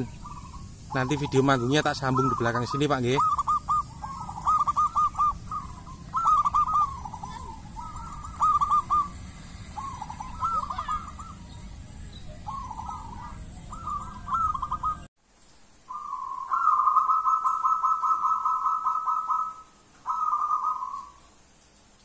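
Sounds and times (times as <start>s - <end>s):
dove cooing: 0.0s - 15.1s, 15.9s - 21.2s.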